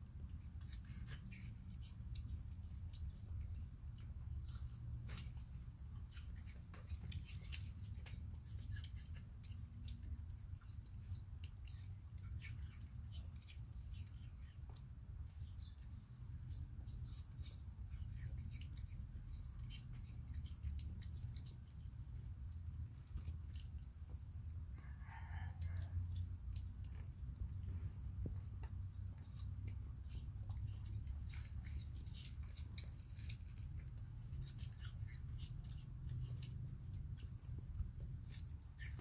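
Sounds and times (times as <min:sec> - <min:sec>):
bananas being peeled: 0:00.0 - 0:39.0
low steady hum: 0:00.0 - 0:39.0
monkeys chewing fruit: 0:00.0 - 0:39.0.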